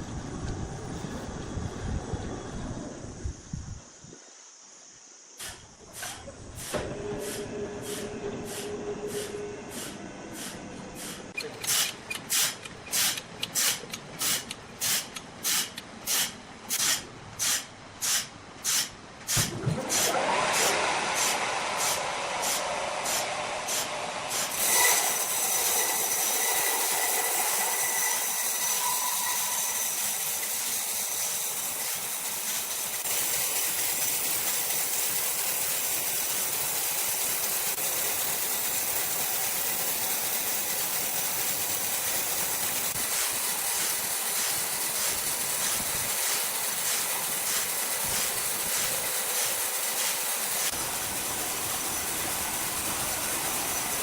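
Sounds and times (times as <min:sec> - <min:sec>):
sawmill machinery hissing: 0:00.9 - 0:54.0.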